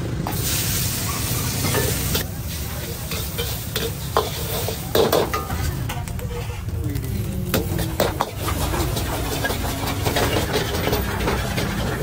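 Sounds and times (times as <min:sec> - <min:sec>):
ladle scraping a wok: 0:00.3 - 0:12.0.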